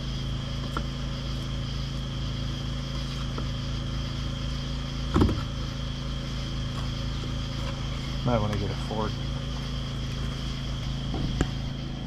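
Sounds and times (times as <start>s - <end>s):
high whine: 0.0s - 12.0s
low machine hum: 0.0s - 12.0s.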